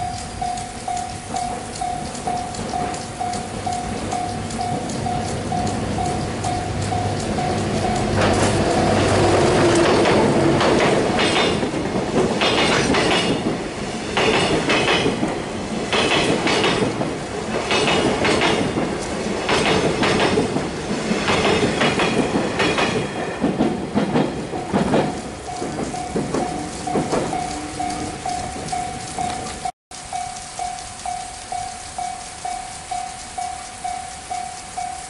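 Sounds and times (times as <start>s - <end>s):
train wheels clacking over rail joints: 0.0s - 29.7s
crossing warning bell ringing: 0.0s - 35.0s
freight train rumbling: 0.0s - 35.0s.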